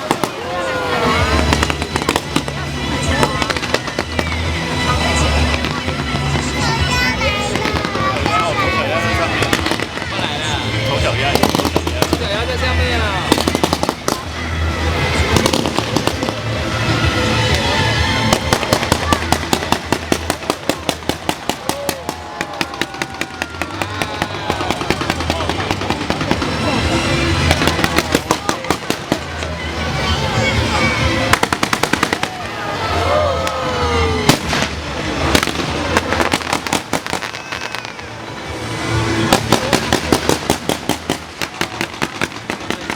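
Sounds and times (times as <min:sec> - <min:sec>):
fireworks bangs and crackles: 0:00.0 - 0:42.9
music playing: 0:00.0 - 0:42.9.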